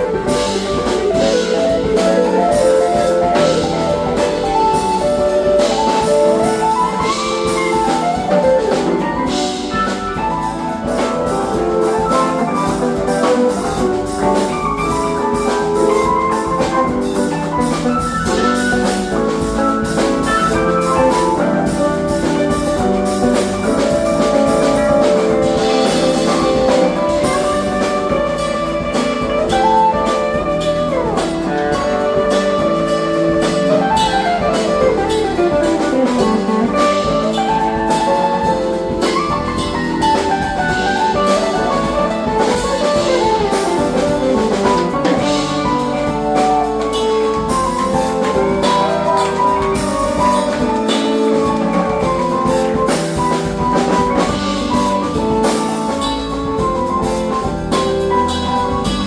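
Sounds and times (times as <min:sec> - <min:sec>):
live funk band playing: 0:00.0 - 0:59.0
sliding lead melody: 0:00.0 - 0:59.0.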